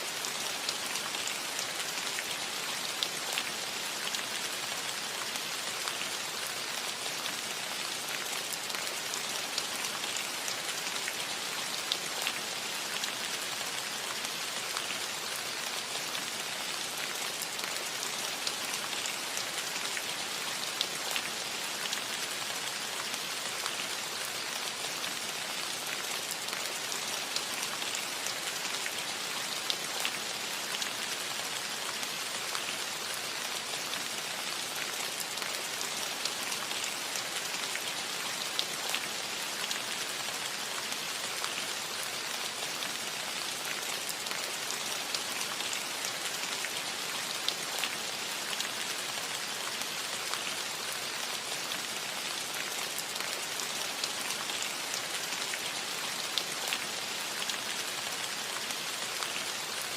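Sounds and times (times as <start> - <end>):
rain pattering on a roof: 0.0 - 59.9.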